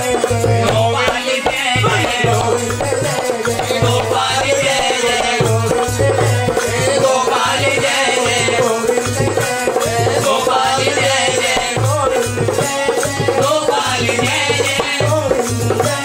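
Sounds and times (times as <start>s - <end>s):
harmonium: 0.0s - 16.0s
man singing: 0.0s - 16.0s
rattle keeping the beat: 0.0s - 16.0s.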